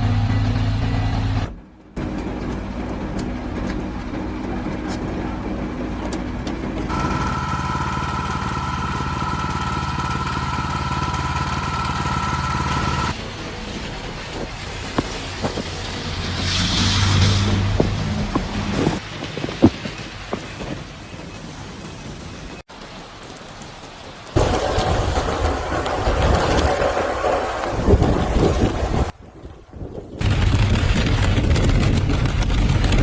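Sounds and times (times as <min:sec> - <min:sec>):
vehicle engines running: 0:00.0 - 0:29.2, 0:30.2 - 0:33.0.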